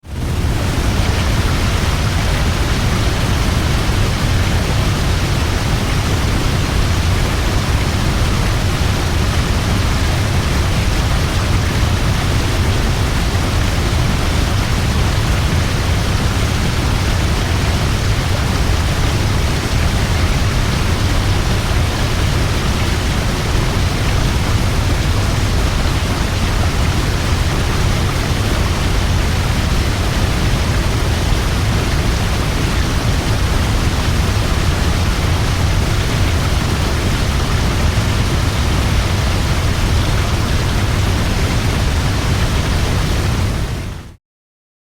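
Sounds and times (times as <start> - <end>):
waterfall rushing: 0.1 - 44.1.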